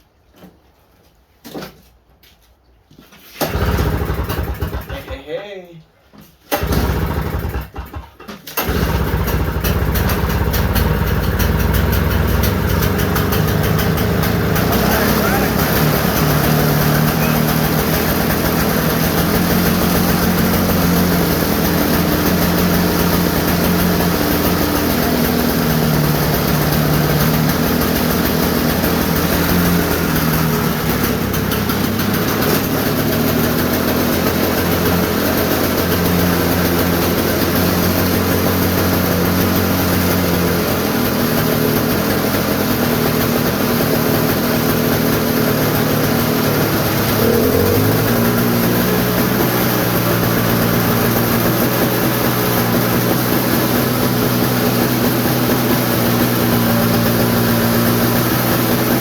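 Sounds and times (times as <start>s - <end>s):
snowblower engine running: 3.4s - 5.2s, 6.5s - 59.0s.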